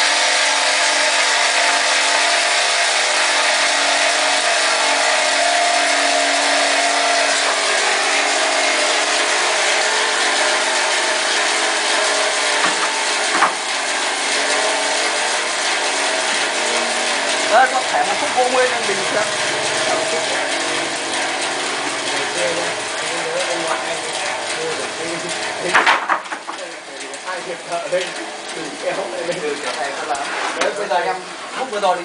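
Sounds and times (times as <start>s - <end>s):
sawmill sawing wood: 0.0s - 26.4s.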